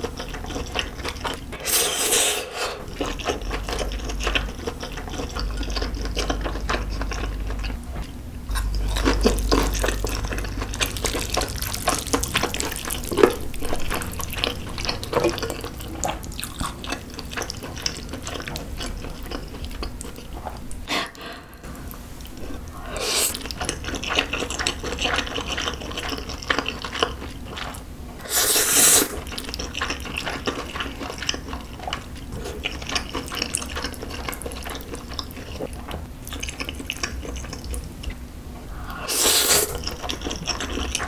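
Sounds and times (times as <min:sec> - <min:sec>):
wet chewing and slurping: 0:00.0 - 0:41.0.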